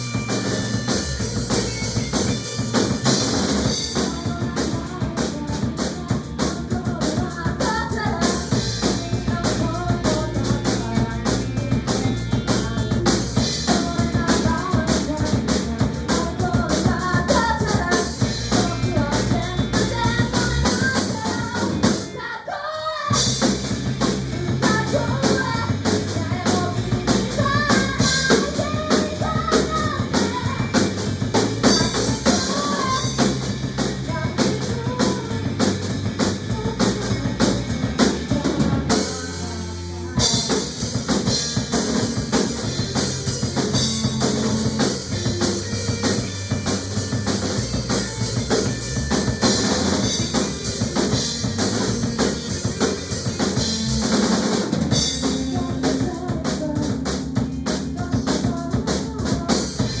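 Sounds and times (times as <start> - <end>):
bass line: 0.0 - 22.4, 23.0 - 60.0
driving drum kit beat: 0.0 - 60.0.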